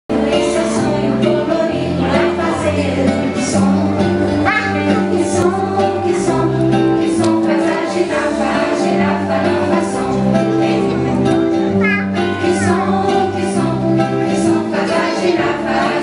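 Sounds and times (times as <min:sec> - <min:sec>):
person singing: 0:00.1 - 0:16.0.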